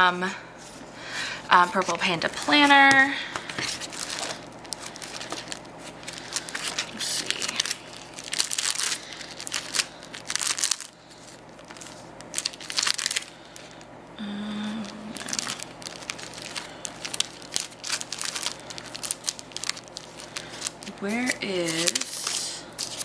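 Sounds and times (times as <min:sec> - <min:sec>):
plastic sleeves crinkling: 0:01.5 - 0:13.9, 0:14.7 - 0:23.0.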